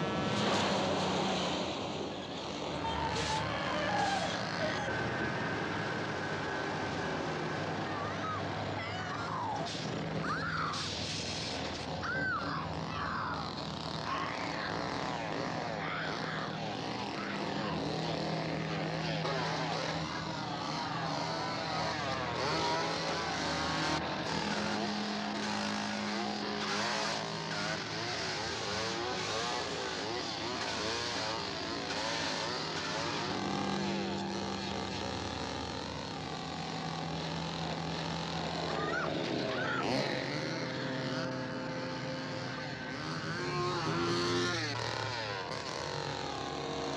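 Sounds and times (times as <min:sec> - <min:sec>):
engine revving: 0:00.0 - 0:46.9.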